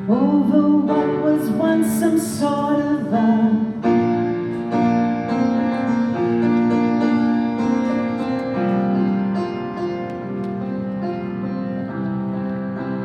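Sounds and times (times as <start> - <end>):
sustained keyboard chords: 0.0 - 13.0.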